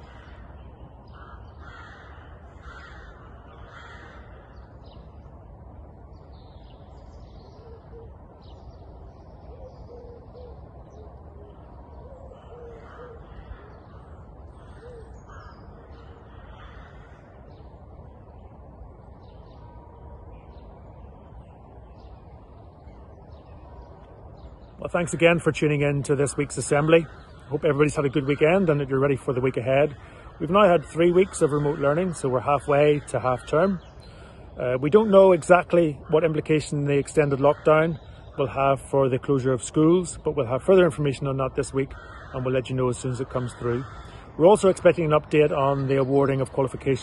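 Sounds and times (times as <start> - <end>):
harsh crow-like bird calls: 0.0 - 5.4, 6.1 - 47.0
low background rumble: 0.0 - 39.2
low hooting bird notes: 0.0 - 47.0.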